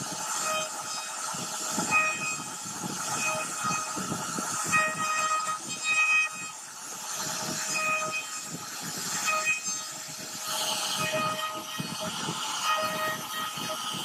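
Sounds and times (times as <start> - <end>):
rough wood cutting noise: 0.0 - 14.0
router spindle whine: 0.0 - 14.0.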